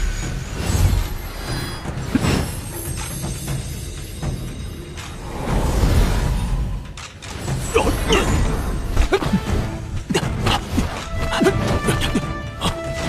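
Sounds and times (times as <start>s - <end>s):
dramatic film music: 0.0s - 13.0s.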